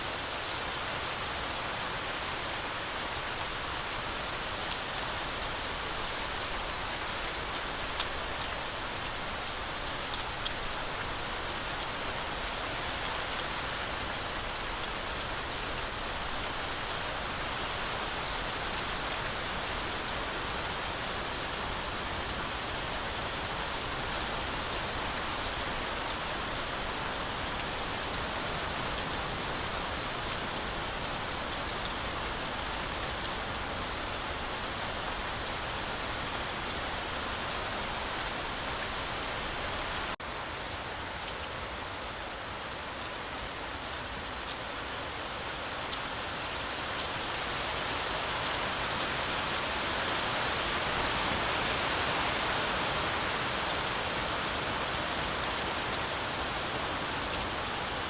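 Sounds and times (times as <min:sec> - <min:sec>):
heavy rain through forest canopy: 0:00.0 - 0:58.0.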